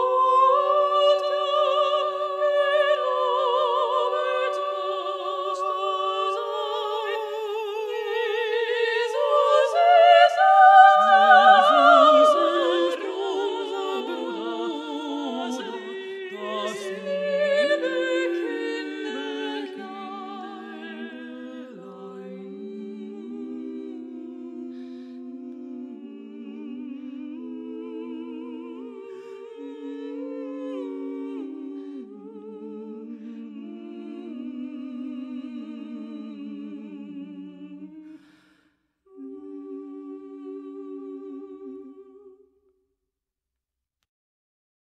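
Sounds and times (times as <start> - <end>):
women singing unaccompanied: 0.0 - 38.2.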